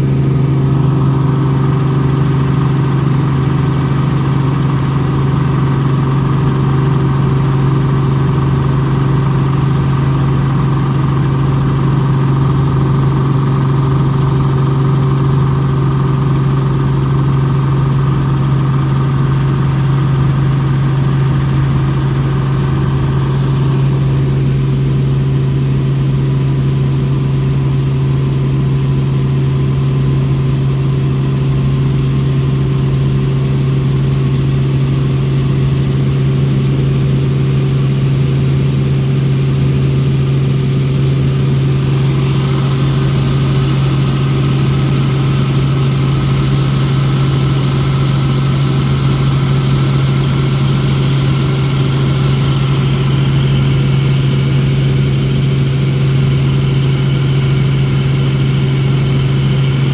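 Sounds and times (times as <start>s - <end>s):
helicopter engine and rotors droning: 0.0s - 59.9s.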